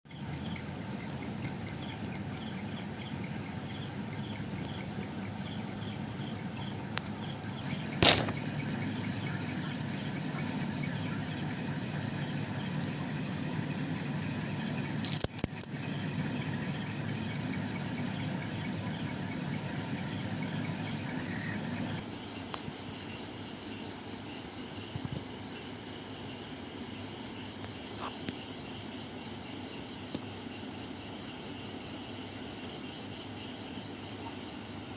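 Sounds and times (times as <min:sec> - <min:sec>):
insects chirping: 0:00.1 - 0:34.9.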